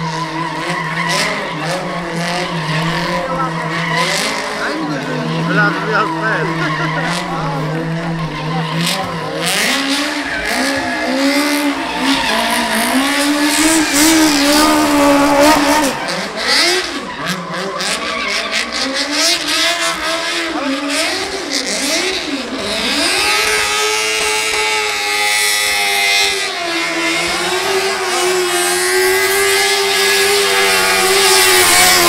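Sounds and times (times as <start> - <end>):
car engine at high revs: 0.0 - 32.0
tyres squealing and skidding: 0.0 - 32.0.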